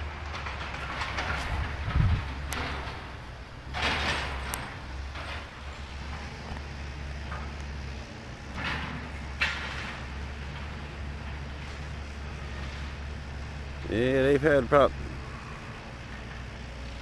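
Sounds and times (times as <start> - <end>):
heavy machinery engine drone: 0.0 - 17.0.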